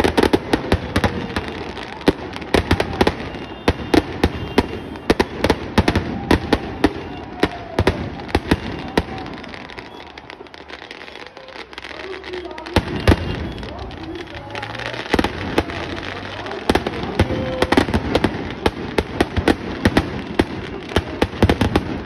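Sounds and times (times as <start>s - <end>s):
firecrackers banging: 0.0s - 22.0s.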